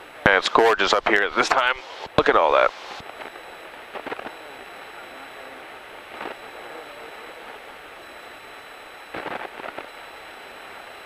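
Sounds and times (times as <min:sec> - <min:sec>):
small plane cockpit drone: 0:00.0 - 0:11.0.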